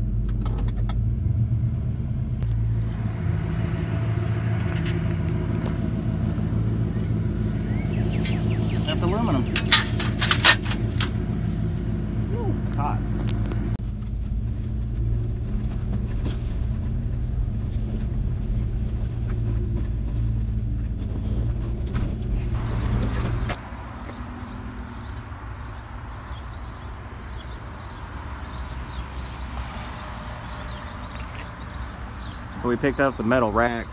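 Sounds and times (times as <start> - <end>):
truck engine running: 0.0 - 33.9.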